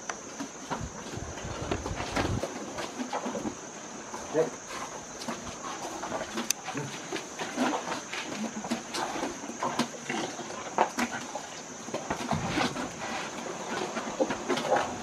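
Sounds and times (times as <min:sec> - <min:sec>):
elephants rummaging through food: 0:00.2 - 0:15.0.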